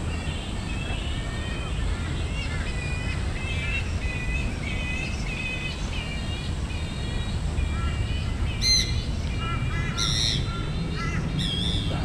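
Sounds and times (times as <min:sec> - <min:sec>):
birds chirping: 0:00.0 - 0:12.0
loud harsh bird calls: 0:00.0 - 0:12.0.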